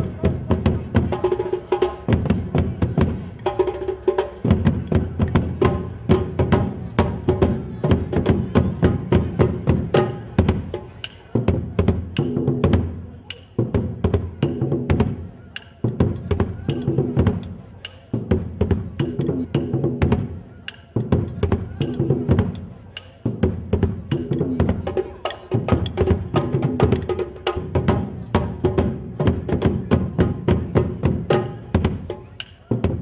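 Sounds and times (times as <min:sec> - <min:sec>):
drums: 0:00.0 - 0:33.0.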